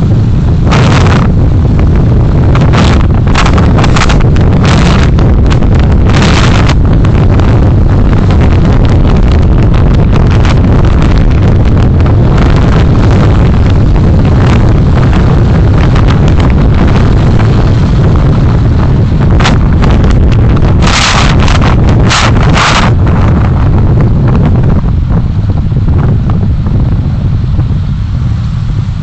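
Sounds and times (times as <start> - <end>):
road and wind rumble: 0.0 - 29.0.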